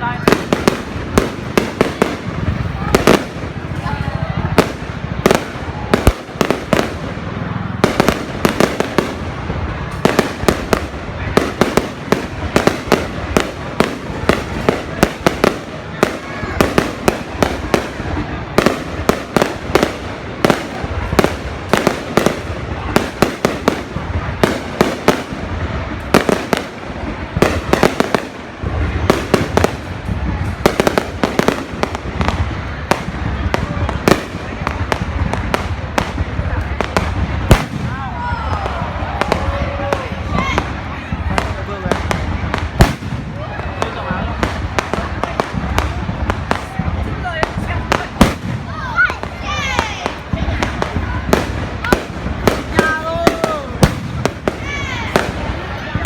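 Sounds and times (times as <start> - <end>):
firework bangs: 0.0 - 56.0.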